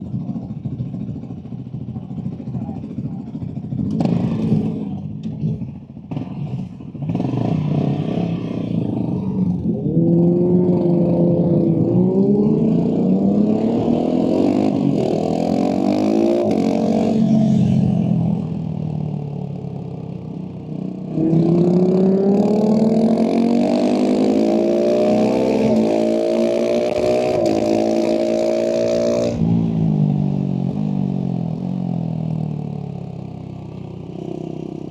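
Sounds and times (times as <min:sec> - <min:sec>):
motorcycle engine revving through gears: 0:03.4 - 0:34.9.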